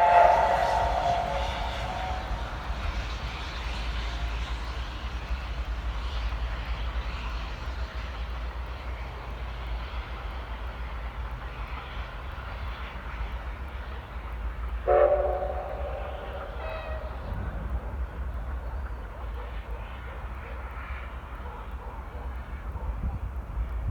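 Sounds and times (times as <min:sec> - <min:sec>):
steam train running: 0:00.0 - 0:23.9.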